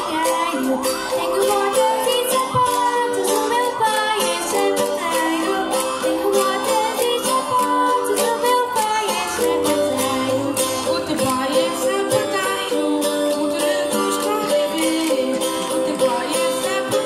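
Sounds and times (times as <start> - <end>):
strummed guitar: 0.0 - 17.0
voices singing: 0.0 - 17.0.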